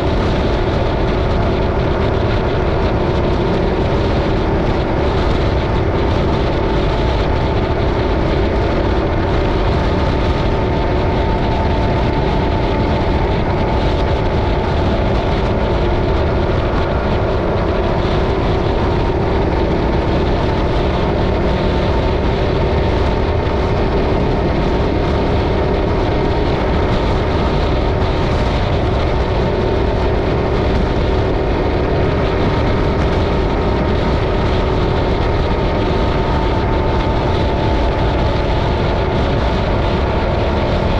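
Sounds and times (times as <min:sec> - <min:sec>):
motorcycle engine cruising: 0:00.0 - 0:40.9
wind and road rush: 0:00.0 - 0:40.9.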